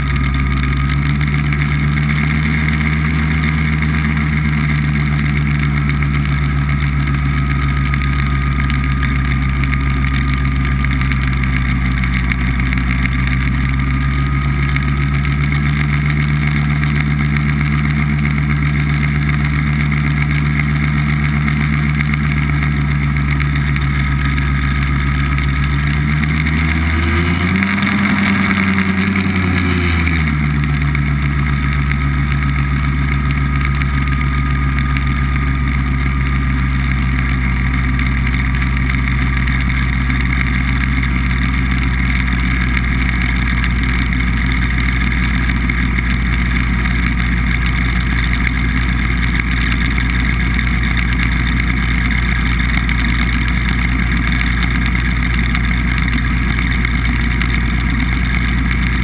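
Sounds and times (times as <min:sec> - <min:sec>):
hovercraft engine and fan: 0:00.0 - 0:59.0.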